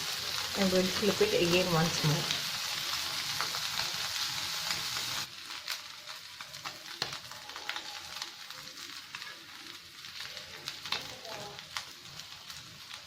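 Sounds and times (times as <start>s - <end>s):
fish sizzling in hot oil: 0.0s - 13.0s
sharp oil crackles: 0.0s - 13.0s.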